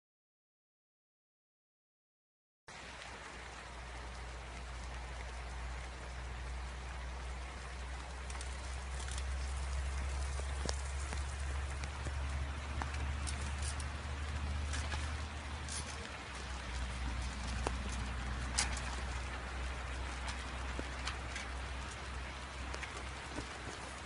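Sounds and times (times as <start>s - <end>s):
rain falling on puddles: 2.7s - 24.0s
sharp drips: 2.7s - 24.0s
low hum: 2.8s - 24.0s.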